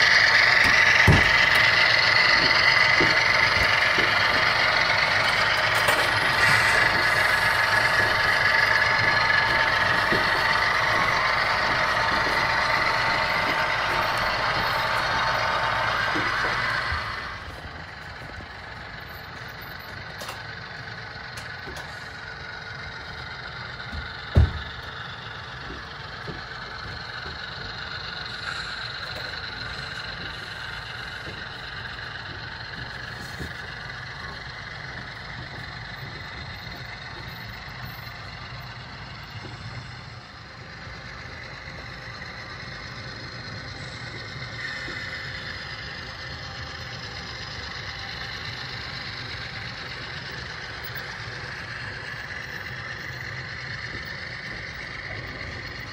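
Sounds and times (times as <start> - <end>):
model train cars rolling on track: 0.0 - 55.9.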